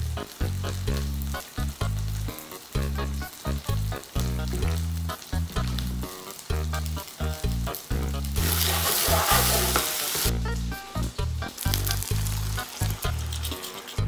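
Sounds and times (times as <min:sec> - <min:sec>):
background music with throbbing bass: 0:00.0 - 0:13.6
chicken sizzling in a frying pan: 0:00.0 - 0:14.0.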